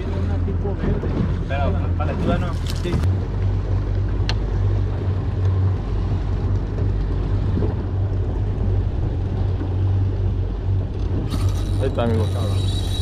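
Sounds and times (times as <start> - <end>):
outboard motor droning: 0.0 - 13.0
wind and water rushing: 0.0 - 13.0.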